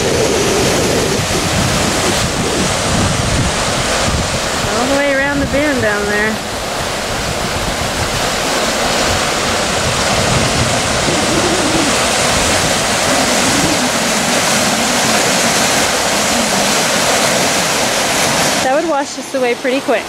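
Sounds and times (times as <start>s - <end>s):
flooded creek rushing: 0.0s - 20.0s.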